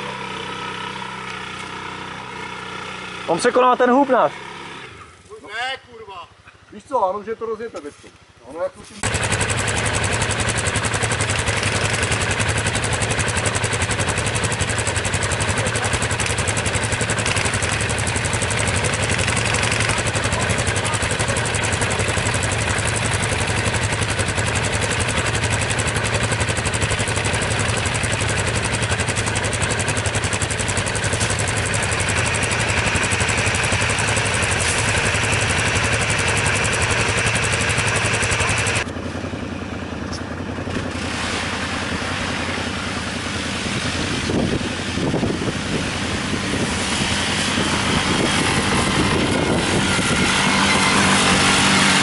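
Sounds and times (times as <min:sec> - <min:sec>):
atv engine running: 0:00.0 - 0:07.3, 0:08.0 - 0:52.0.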